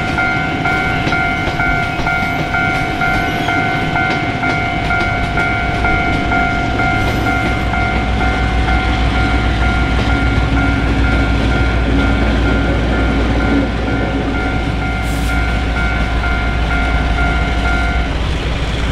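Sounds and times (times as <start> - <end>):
steady high ringing: 0.0 - 18.9
train rumbling: 0.0 - 18.9.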